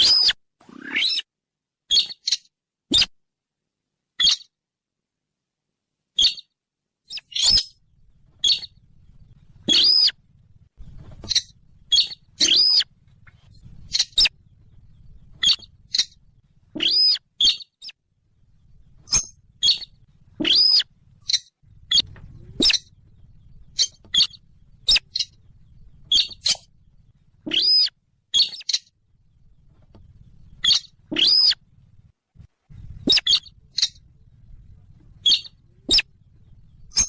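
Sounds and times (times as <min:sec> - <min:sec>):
faint low hum: 0:03.3 - 0:37.0.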